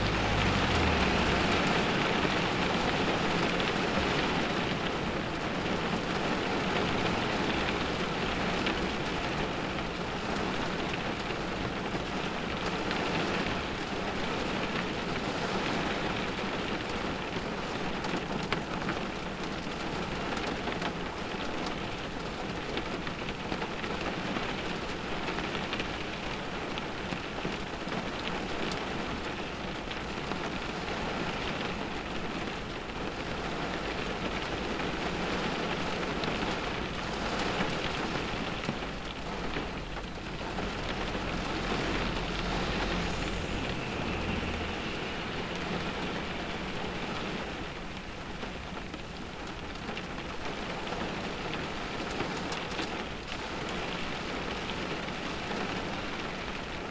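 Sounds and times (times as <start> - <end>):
rain drumming on car roof: 0.0 - 56.9.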